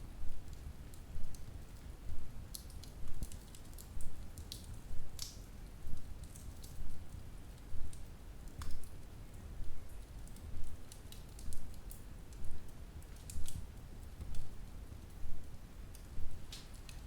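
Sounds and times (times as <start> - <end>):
low rumble of flames: 0.1 - 17.0
fire crackling and popping: 0.2 - 17.0.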